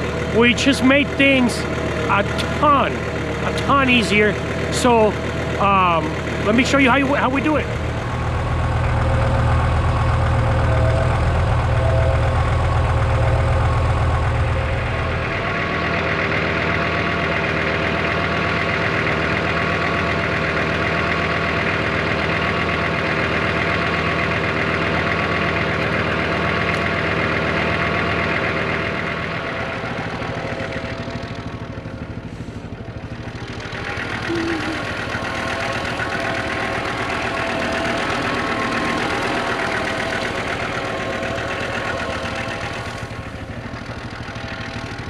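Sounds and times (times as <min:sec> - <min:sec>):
tractor engine rumble: 0:00.0 - 0:45.0.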